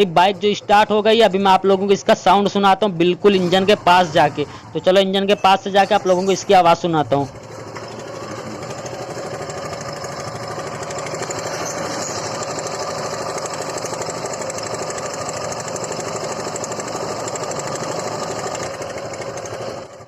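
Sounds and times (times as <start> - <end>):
motorcycle engine idling with clatter: 0.0 - 20.0.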